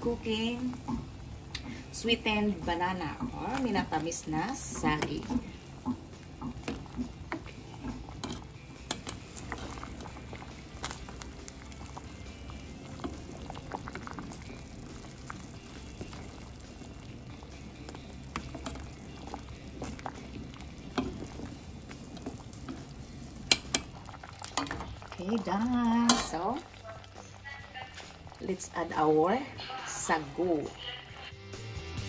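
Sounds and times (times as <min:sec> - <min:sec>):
pot bubbling with pops: 0:00.0 - 0:30.7.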